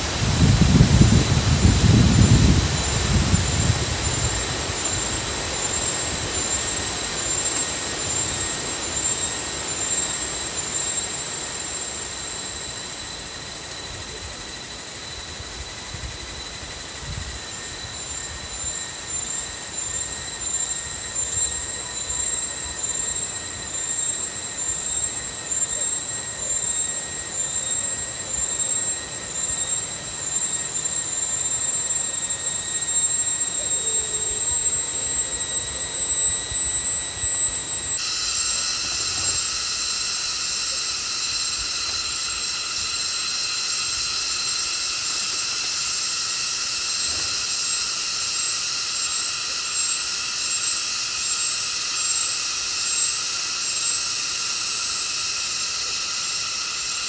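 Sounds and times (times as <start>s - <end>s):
insect chorus whining: 0.0s - 57.0s
insects buzzing: 0.0s - 57.0s.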